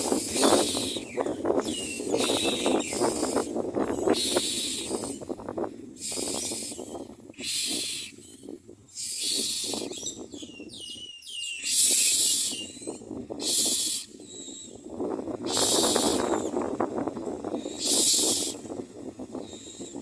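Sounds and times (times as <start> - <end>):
nestlings begging with hissing rasps: 0.0 - 5.4, 6.0 - 14.8, 15.4 - 16.6, 17.5 - 18.8.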